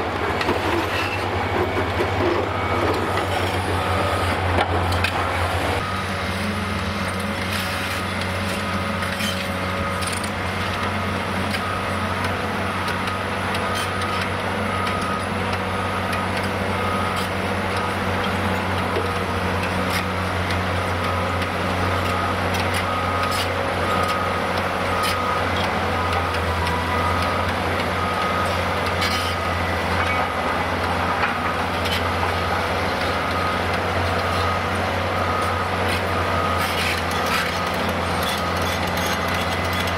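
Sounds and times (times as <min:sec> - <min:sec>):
excavator diesel engine running: 0:00.0 - 0:39.9
reversing alarm beeping: 0:00.6 - 0:39.9.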